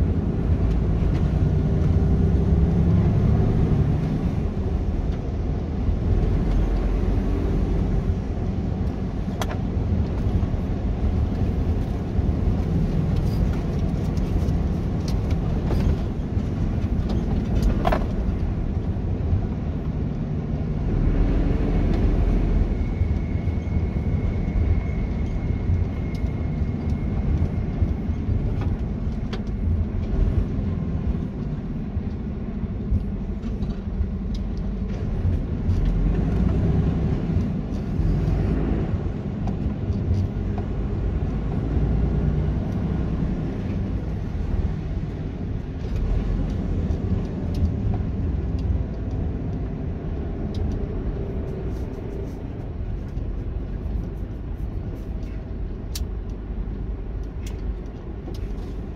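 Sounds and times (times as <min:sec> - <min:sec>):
truck engine rumble: 0:00.0 - 0:58.9.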